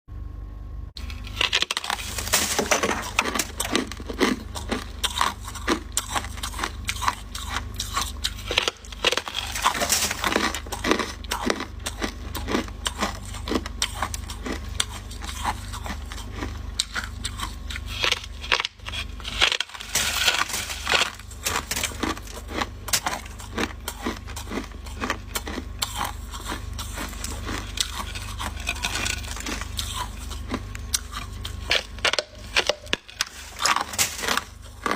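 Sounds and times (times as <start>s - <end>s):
low steady hum: 0.1s - 34.9s
frost being scraped: 1.0s - 11.6s, 12.3s - 34.9s.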